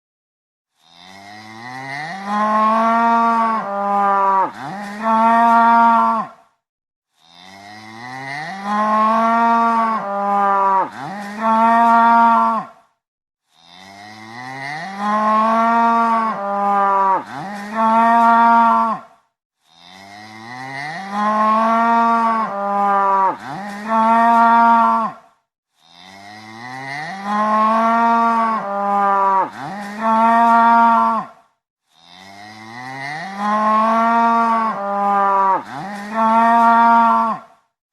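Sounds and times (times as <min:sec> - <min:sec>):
cow mooing: 0:00.8 - 0:06.4, 0:07.2 - 0:12.8, 0:13.6 - 0:19.1, 0:19.7 - 0:25.2, 0:25.8 - 0:31.4, 0:32.0 - 0:37.5.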